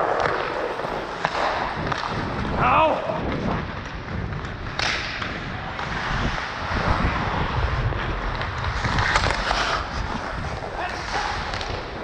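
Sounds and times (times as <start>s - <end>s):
skate blades scraping ice: 0.0s - 12.0s
wind rumble on microphone: 0.9s - 12.0s.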